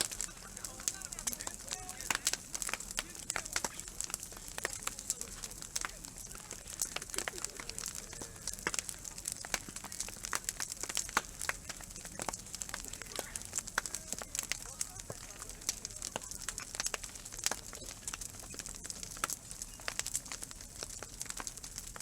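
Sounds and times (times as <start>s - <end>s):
bonfire crackling: 0.0s - 22.0s
sharp pops and snaps: 0.0s - 22.0s.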